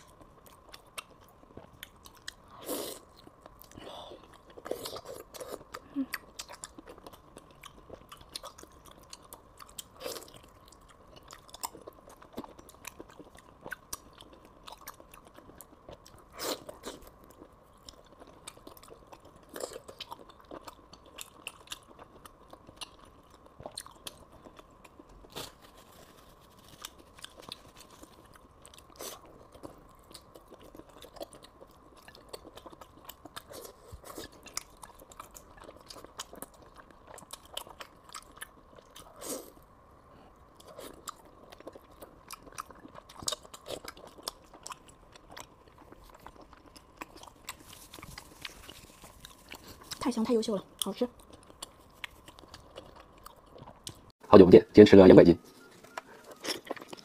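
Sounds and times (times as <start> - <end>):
close chewing and biting: 0.0 - 39.7, 40.4 - 54.2, 55.7 - 57.0.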